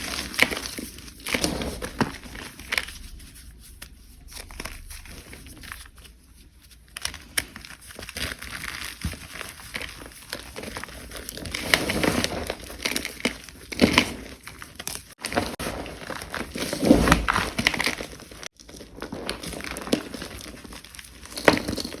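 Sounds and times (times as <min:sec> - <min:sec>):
brittle material crunching: 0:00.0 - 0:22.0.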